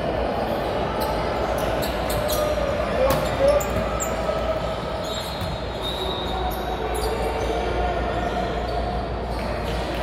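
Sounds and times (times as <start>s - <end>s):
crowd chatter echoing: 0.0s - 10.0s
basketball court noise: 0.1s - 10.0s.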